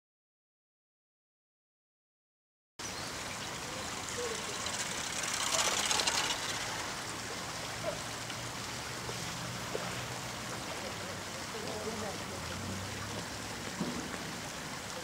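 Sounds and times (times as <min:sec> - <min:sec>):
running water rushing: 0:02.8 - 0:15.0.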